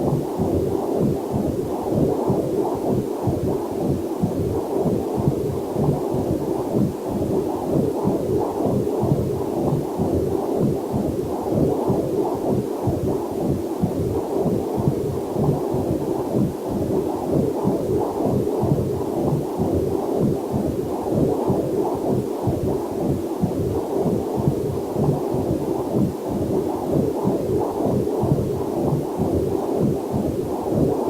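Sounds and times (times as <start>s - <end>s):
fetal heartbeat pulses on doppler: 0.0s - 31.0s.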